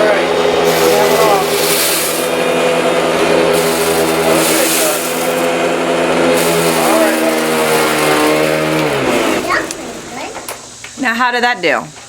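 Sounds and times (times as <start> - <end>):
vacuum cleaner running: 0.0 - 11.5.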